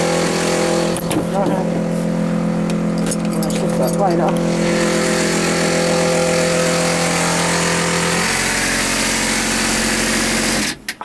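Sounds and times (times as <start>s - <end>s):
water pump motor hum: 0.0s - 11.0s.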